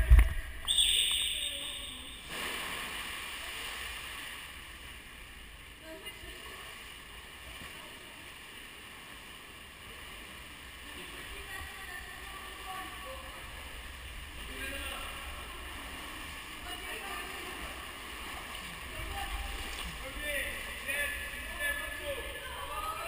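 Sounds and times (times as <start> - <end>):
echoing water in swimming pool: 0.0 - 23.0.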